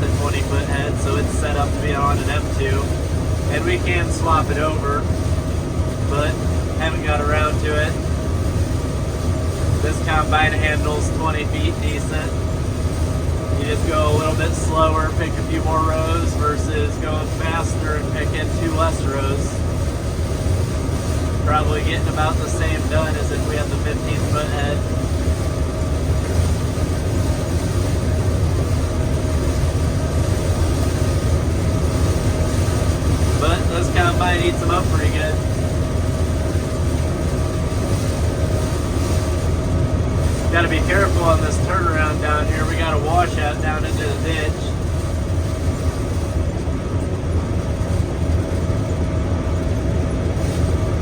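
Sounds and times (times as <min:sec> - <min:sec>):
combine harvester droning: 0:00.0 - 0:51.0
faint steady whine: 0:00.0 - 0:51.0.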